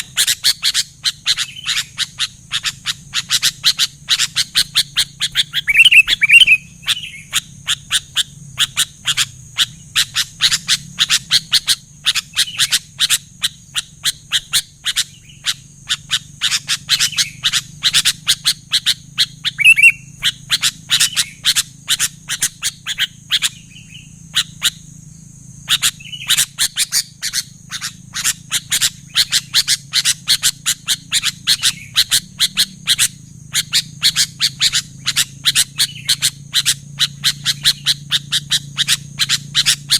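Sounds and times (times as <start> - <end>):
bird chirping and whistling: 0.0 - 24.9, 25.6 - 39.9.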